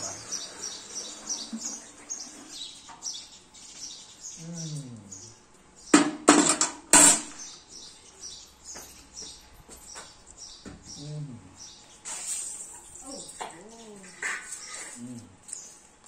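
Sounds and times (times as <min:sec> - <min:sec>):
small birds chirping: 0:00.0 - 0:06.1, 0:07.3 - 0:16.0.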